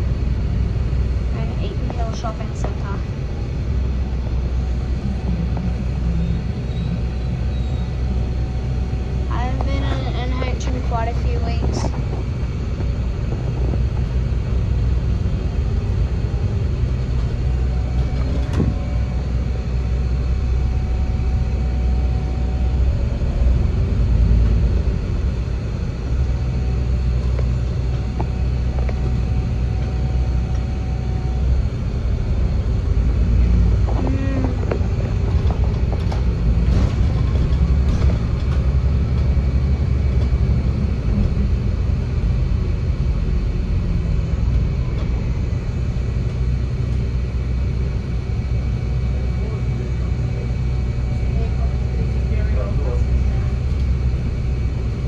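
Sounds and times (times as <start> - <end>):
bus engine and road rumble: 0.0 - 55.0
faint whine: 0.0 - 55.0.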